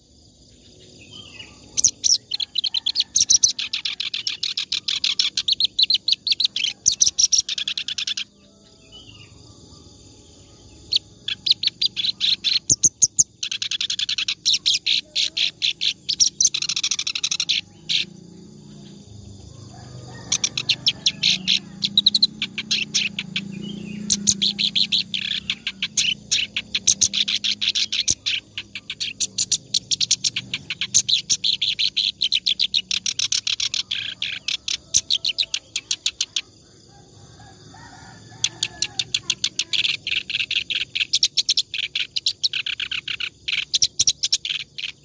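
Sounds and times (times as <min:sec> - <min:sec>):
reed warbler singing: 0:00.0 - 0:09.4, 0:10.7 - 0:36.6, 0:38.3 - 0:45.0.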